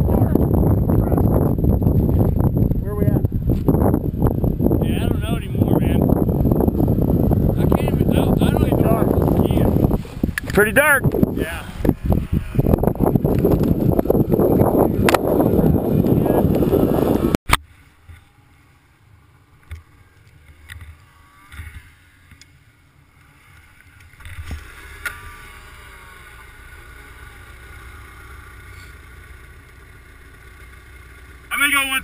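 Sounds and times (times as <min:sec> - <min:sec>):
high engine whine: 0:00.0 - 0:32.0
snowmobile engine humming: 0:00.0 - 0:32.0.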